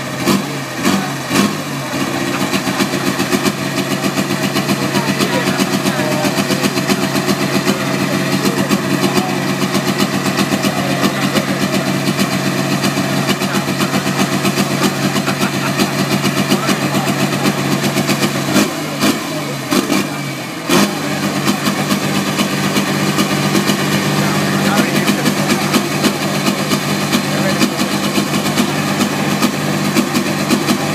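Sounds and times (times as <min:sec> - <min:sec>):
diesel tractor engine idling: 0:00.0 - 0:30.9.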